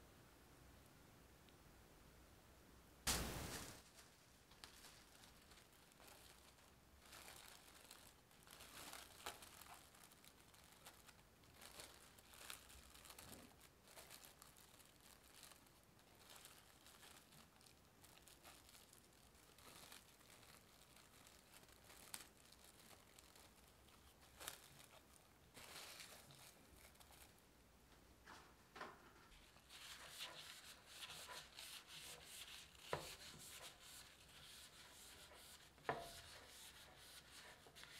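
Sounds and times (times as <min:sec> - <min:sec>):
plastic cling wrap crinkling: 0:03.1 - 0:27.5, 0:29.3 - 0:37.9.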